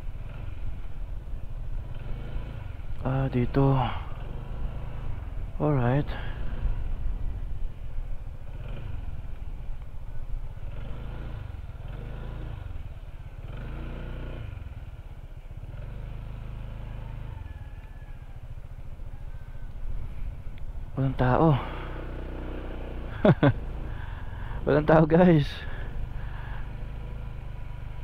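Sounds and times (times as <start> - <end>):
scooter engine running: 0.0 - 28.0.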